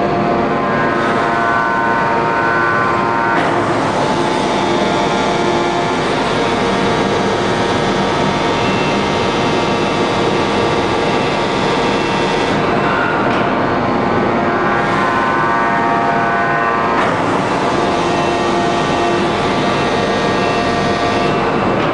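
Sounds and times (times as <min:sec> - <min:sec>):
forging press machinery running: 0:00.0 - 0:21.9
steady humming tones: 0:00.0 - 0:21.9.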